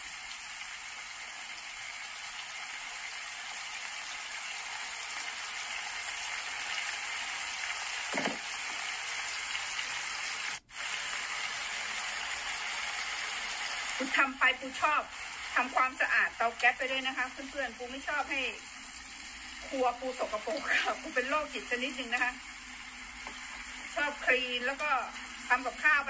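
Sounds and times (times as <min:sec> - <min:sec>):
mushrooms sizzling in frying pan: 0:00.0 - 0:26.0.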